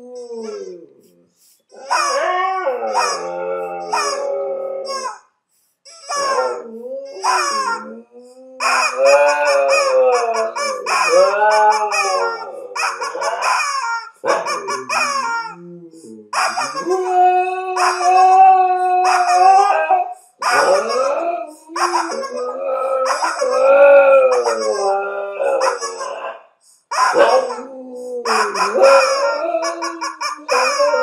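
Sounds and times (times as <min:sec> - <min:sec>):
dog howling: 0:00.0 - 0:01.0, 0:01.7 - 0:05.1, 0:06.1 - 0:26.4, 0:27.0 - 0:31.0
rubber chicken toy squawking: 0:00.0 - 0:31.0.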